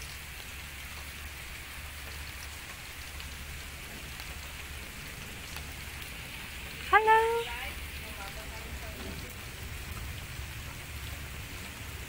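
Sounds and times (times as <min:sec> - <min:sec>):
rain hissing: 0:00.0 - 0:12.0
raindrop ticks: 0:00.0 - 0:12.0.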